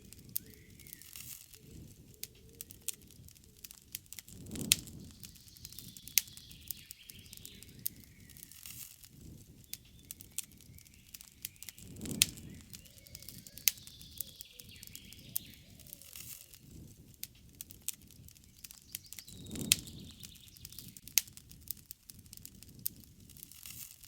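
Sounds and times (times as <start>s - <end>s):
birds chirping faintly: 0.0s - 21.1s
campfire crackling and popping: 0.0s - 24.0s.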